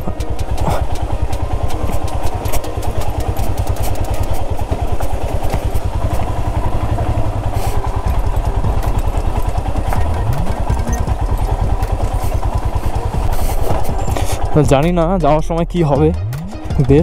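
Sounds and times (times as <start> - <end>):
motorcycle clattering over rocks: 0.0 - 17.0
motorcycle engine at low revs: 0.0 - 17.0.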